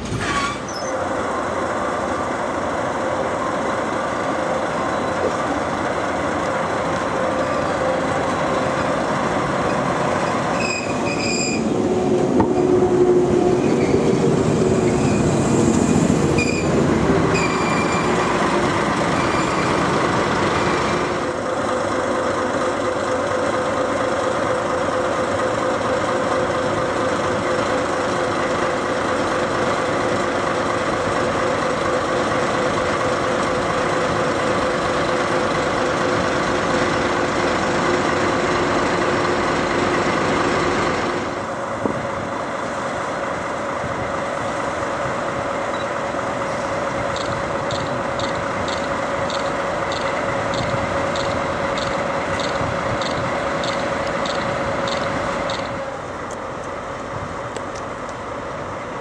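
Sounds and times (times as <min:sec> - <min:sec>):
diesel locomotive idling hum: 0:00.0 - 0:59.0
electric train: 0:00.0 - 0:59.0.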